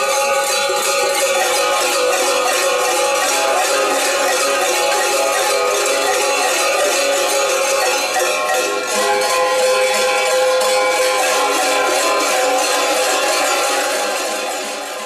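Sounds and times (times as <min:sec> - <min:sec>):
large metal bells clanging: 0:00.0 - 0:15.0.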